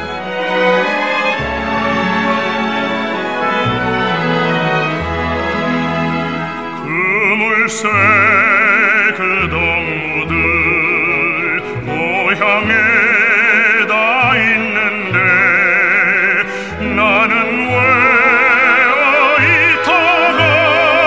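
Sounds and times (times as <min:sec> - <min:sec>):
operatic singing: 0:00.0 - 0:21.0
orchestral accompaniment: 0:00.0 - 0:21.0.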